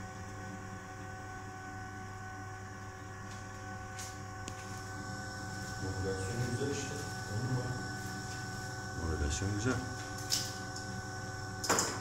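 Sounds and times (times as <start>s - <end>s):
blower fan whining: 0.0s - 12.0s.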